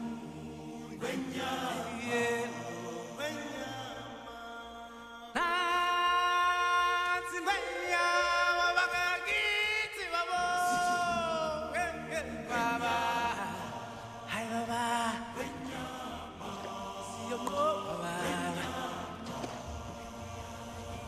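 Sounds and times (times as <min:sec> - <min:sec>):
voices singing chant: 0:00.0 - 0:21.0.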